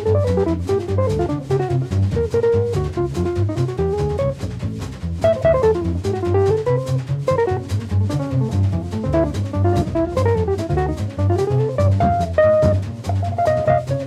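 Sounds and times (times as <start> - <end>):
bass drum strokes: 0.0 - 14.0
guitar melody: 0.0 - 14.0
low bass notes: 0.0 - 14.0
snare drum strokes: 0.0 - 14.0.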